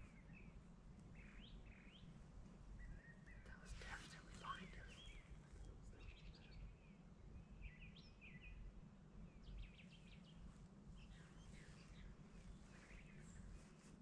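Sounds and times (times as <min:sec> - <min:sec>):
low steady rumble: 0:00.0 - 0:14.0
songbirds chirping: 0:00.0 - 0:14.0.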